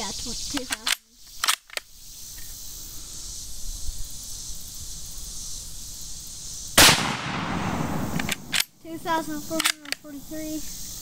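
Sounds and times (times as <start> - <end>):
insects hissing: 0.0 - 11.0.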